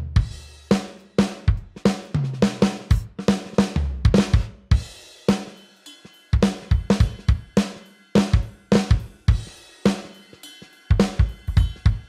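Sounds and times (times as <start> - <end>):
drum kit playing a beat: 0.0 - 12.0.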